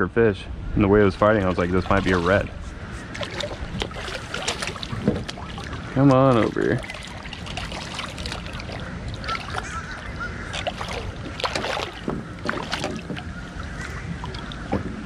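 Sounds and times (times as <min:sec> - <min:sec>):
fish splashing at water surface: 0:01.4 - 0:14.7.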